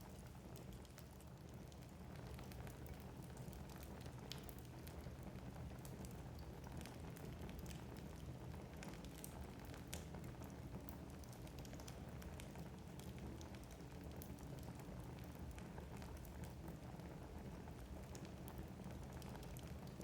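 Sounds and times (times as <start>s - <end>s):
low rumble of flames: 0.0s - 20.0s.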